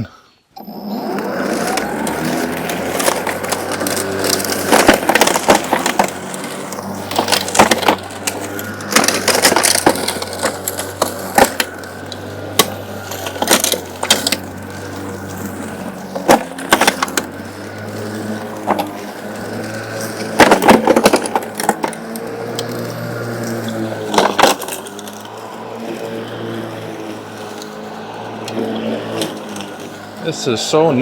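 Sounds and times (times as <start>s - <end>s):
electric lawn mower humming: 0.5s - 31.0s.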